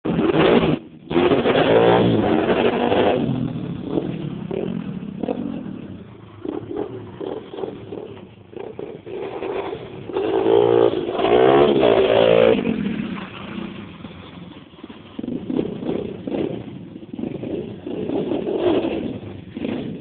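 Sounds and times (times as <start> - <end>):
pit bike engine revving: 0.1 - 20.0.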